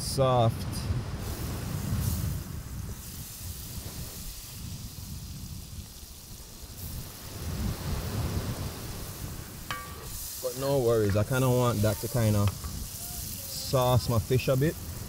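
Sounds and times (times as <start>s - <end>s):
oil sizzling in a skillet: 1.2s - 15.0s.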